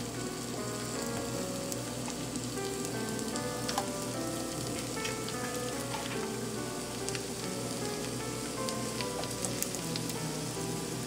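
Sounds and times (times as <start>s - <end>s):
potatoes sizzling in oil: 0.0s - 11.0s
small crackles: 0.0s - 11.0s.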